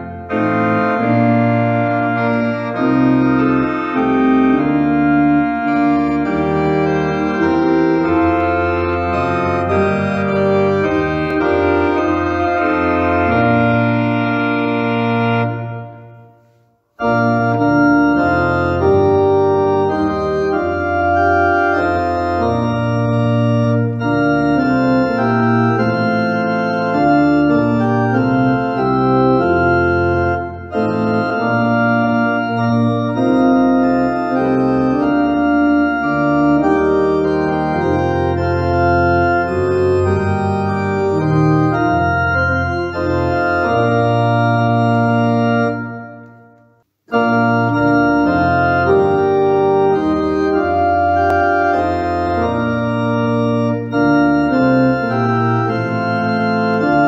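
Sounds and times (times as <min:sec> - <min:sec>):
organ playing hymn chords: 0:00.0 - 0:57.0.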